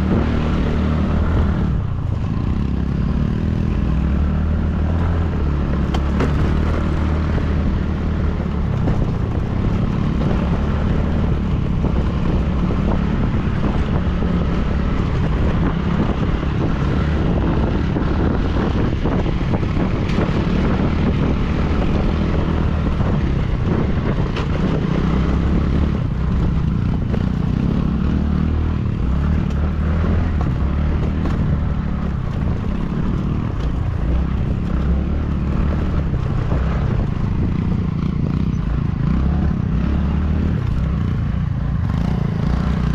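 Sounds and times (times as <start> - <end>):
vehicle engine running: 0.0 - 42.9
wind rumbling on microphone: 0.0 - 42.9.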